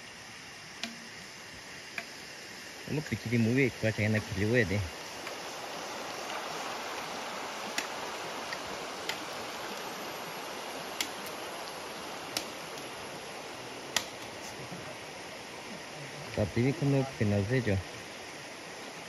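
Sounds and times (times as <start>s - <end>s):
river water rushing over stones: 0.0s - 19.0s.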